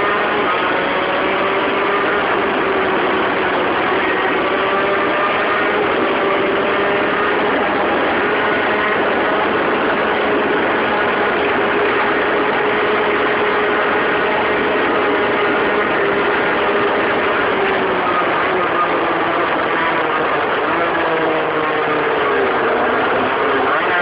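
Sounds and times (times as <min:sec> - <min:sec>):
moped engine whining at speed: 0:00.0 - 0:24.0
wind and road noise: 0:00.0 - 0:24.0.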